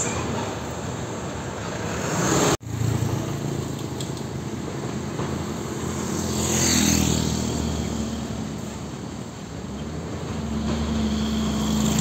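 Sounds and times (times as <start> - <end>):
truck diesel engines: 0.0 - 12.0.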